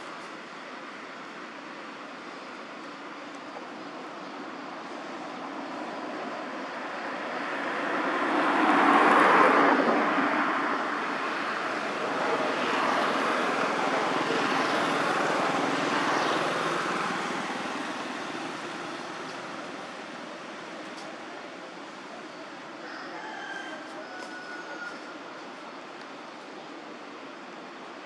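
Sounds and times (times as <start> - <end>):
passing traffic rushing: 0.0 - 28.0.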